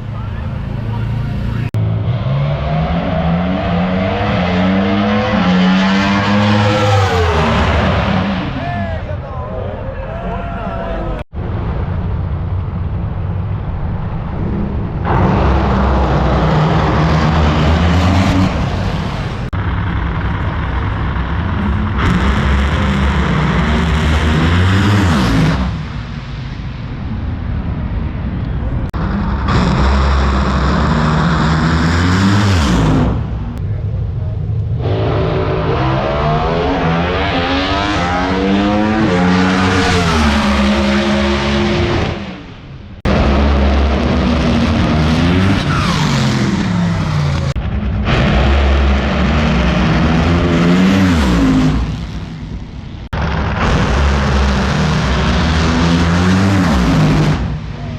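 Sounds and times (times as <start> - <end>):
drag racing engines at full throttle: 0.0 - 57.9.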